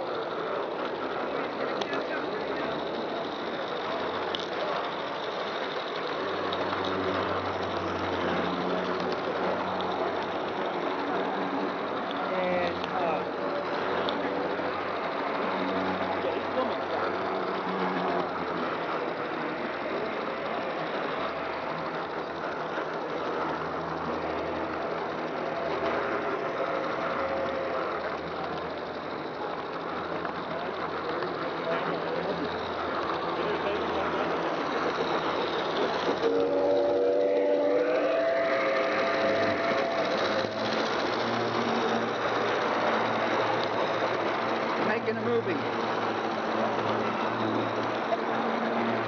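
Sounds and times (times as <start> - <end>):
model train wheels rattling on rail: 0.0 - 49.0.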